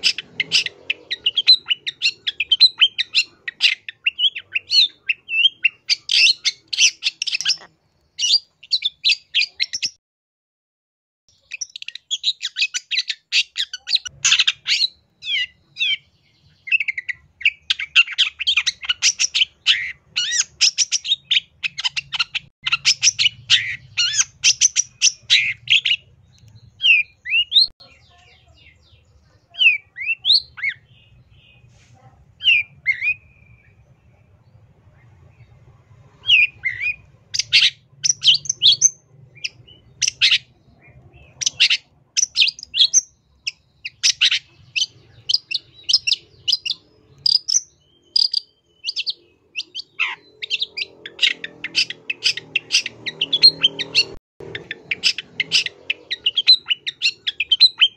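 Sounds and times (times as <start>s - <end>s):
shrike singing and chattering: 0.0s - 10.0s, 11.3s - 57.9s.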